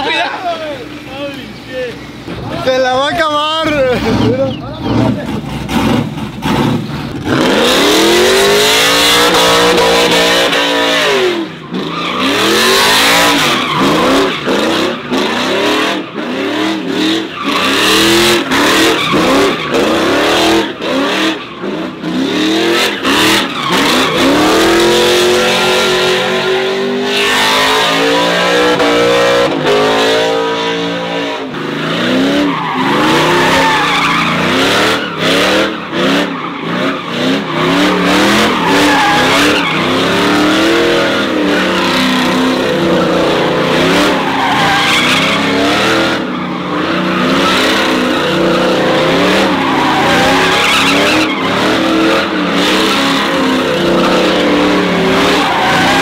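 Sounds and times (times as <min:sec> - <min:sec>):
truck engine revving: 0:00.0 - 0:56.0
tyres screeching: 0:00.0 - 0:56.0.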